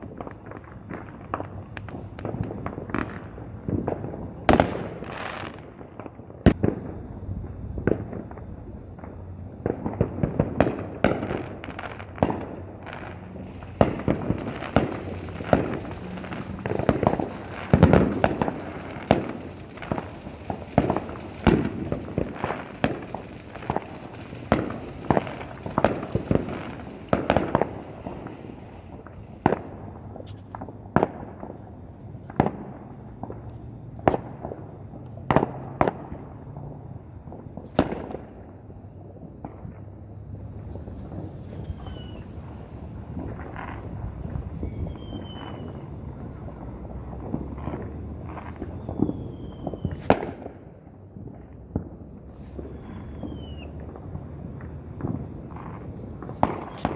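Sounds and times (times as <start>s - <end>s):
fireworks bangs: 0.0s - 56.9s
fireworks crackling: 0.0s - 56.9s.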